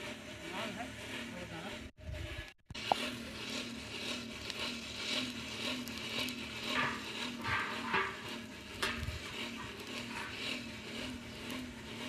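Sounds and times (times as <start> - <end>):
cloth pad scraping copper pot: 0.0 - 12.0
pulsing blower whirring: 0.0 - 12.0.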